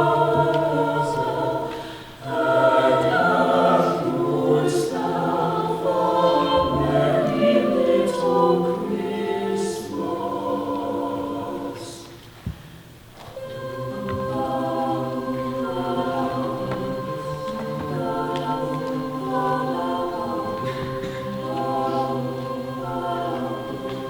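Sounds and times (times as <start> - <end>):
choir singing a cappella: 0.0 - 12.3, 13.2 - 24.0.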